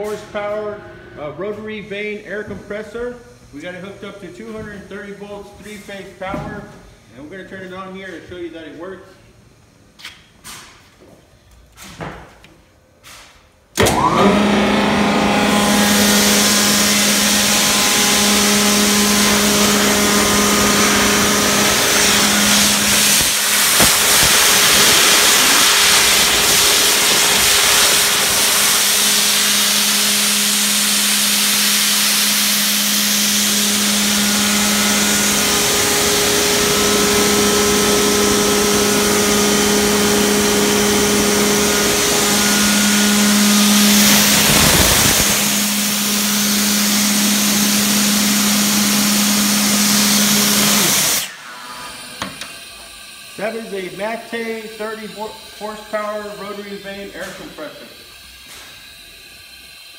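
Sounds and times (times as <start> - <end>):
air compressor running: 0.0 - 10.9, 13.0 - 59.9.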